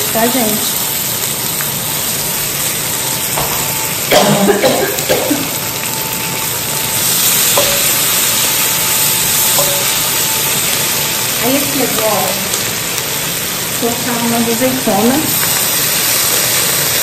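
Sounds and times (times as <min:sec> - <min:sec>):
sausage and onion sizzling: 0:00.0 - 0:17.0.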